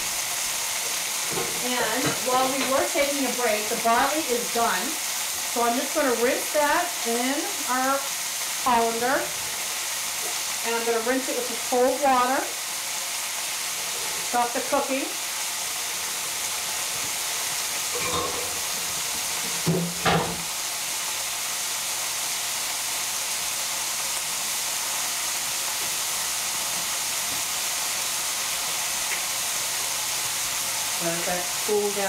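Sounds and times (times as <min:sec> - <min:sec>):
vegetables sizzling in a pan: 0:00.0 - 0:32.0.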